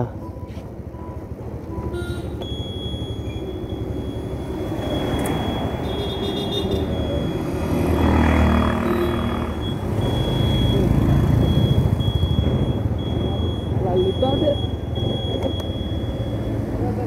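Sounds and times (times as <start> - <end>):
road rumble: 0.0 - 17.0
auto-rickshaw passing: 0.7 - 17.0.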